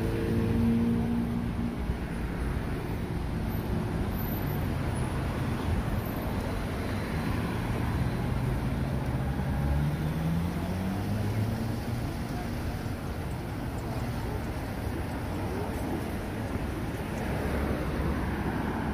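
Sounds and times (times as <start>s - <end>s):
cars driving past: 0.0s - 18.9s.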